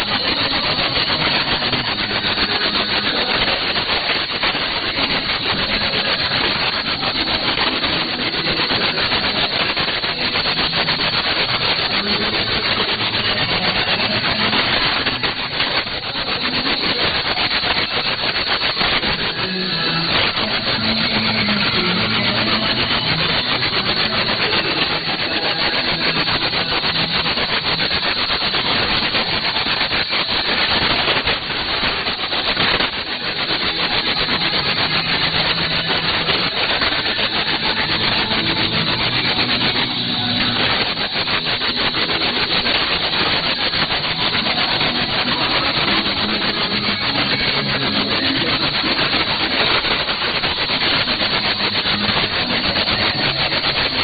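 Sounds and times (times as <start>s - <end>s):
faint music: 0.0s - 54.0s
radio static hiss and crackle: 0.0s - 54.0s.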